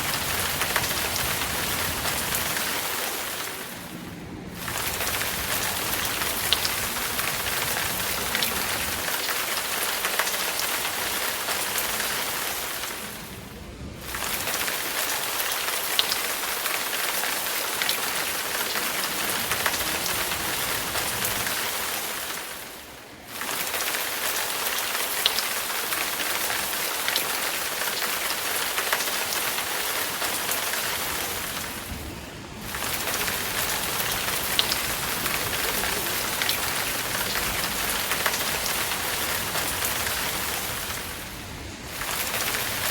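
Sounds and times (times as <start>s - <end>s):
rain hissing: 0.0s - 42.9s.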